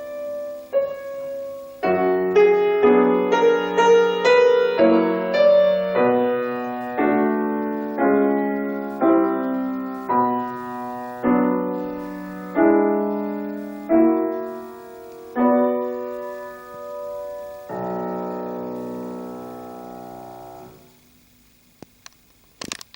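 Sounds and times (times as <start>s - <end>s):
piano playing slow chords: 0.0s - 21.3s.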